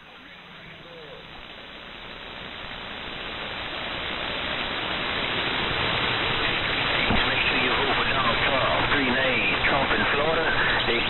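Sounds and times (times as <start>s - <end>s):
radio receiver static hiss: 0.0s - 11.0s.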